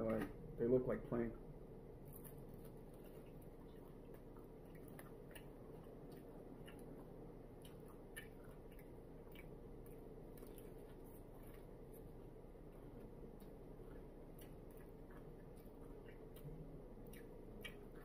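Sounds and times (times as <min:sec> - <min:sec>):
steady low hum: 0:00.0 - 0:18.0
faint chewing: 0:02.0 - 0:18.0.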